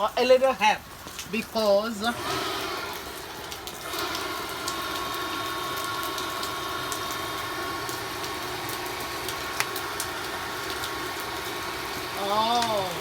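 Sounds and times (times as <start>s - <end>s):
blower motor whining: 1.9s - 13.0s.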